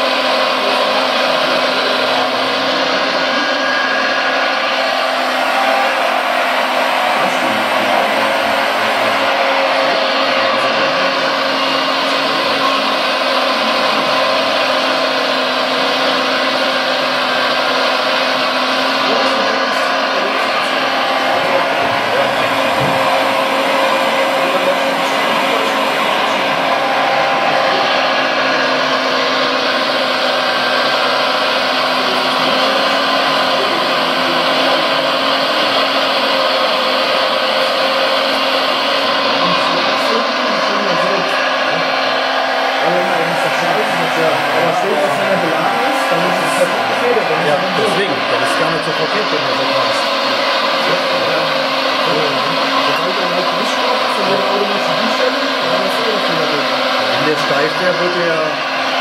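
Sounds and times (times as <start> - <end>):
model excavator whirring hum: 0.0 - 59.0
simulated diesel engine sound: 0.0 - 59.0.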